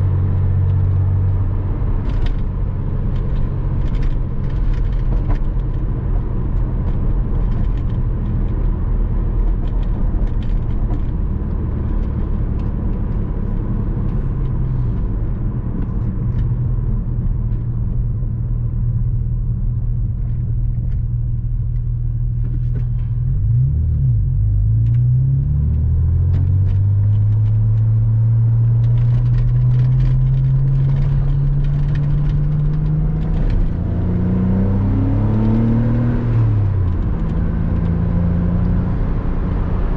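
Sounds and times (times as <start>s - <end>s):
car engine revving with gear changes: 0.0s - 39.9s.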